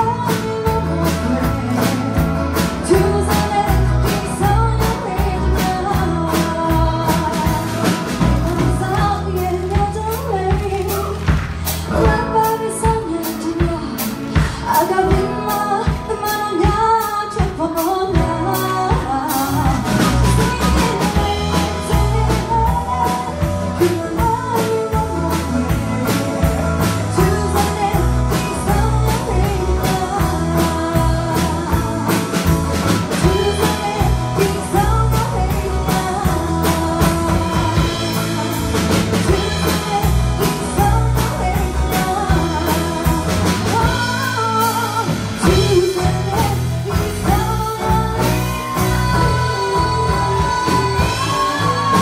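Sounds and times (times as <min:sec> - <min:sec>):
drum kit beat: 0:00.0 - 0:52.0
woman singing: 0:00.0 - 0:52.0.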